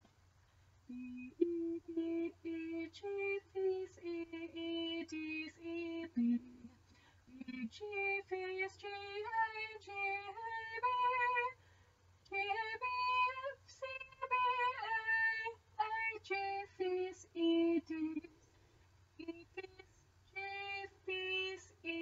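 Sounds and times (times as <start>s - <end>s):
woman singing unaccompanied: 0.9s - 11.6s, 12.2s - 18.4s, 19.2s - 22.0s.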